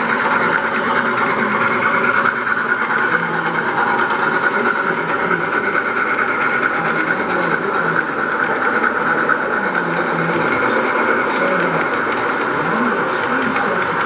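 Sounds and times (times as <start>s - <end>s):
model train motors whirring: 0.0s - 14.0s.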